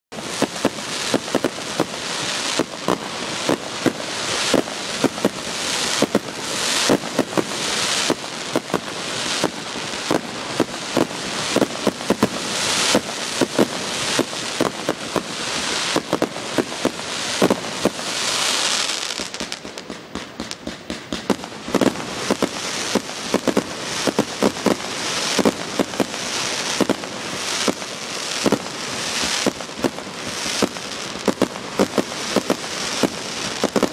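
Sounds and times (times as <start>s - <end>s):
fireworks bangs: 0.1s - 33.9s
fireworks crackling: 0.1s - 33.9s.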